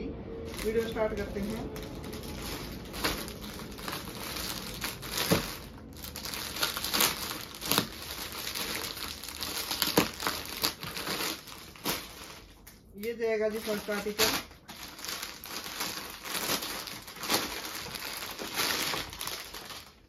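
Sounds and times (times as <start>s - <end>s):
plastic packaging crinkling: 0.4s - 20.0s.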